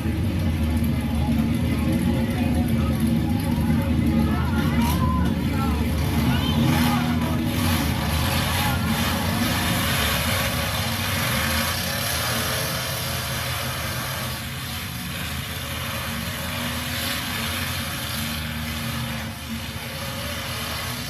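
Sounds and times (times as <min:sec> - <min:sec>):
truck engines rumbling: 0:00.0 - 0:21.0.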